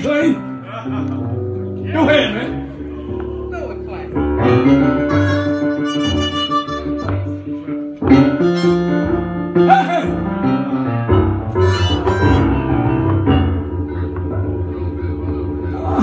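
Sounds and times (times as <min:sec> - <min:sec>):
blues piano solo: 0:00.0 - 0:16.0.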